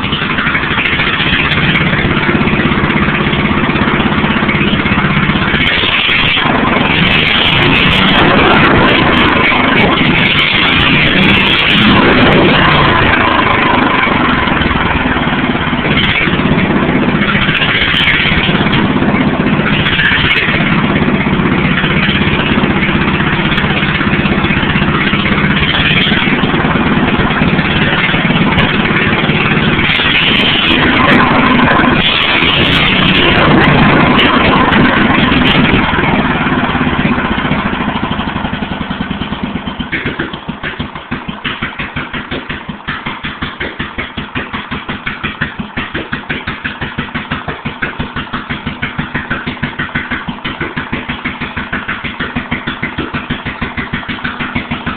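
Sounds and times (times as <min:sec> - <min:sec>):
unmuffled single-cylinder engine running: 0:00.0 - 0:54.9.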